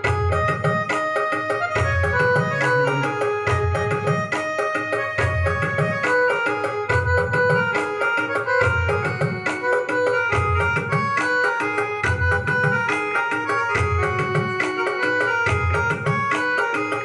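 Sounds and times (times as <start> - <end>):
drum rhythm: 0.0 - 17.0
electronic keyboard melody: 0.0 - 17.0.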